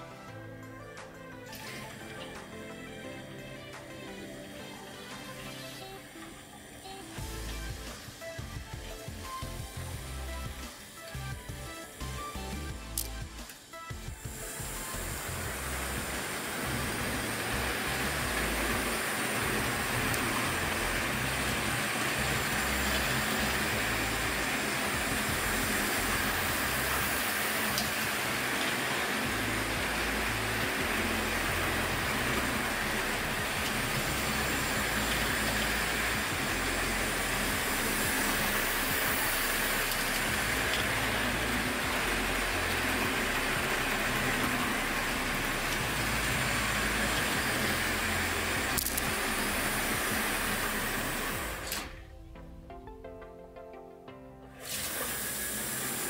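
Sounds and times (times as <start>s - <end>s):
model train running on rails: 1.5s - 52.0s, 54.6s - 56.0s.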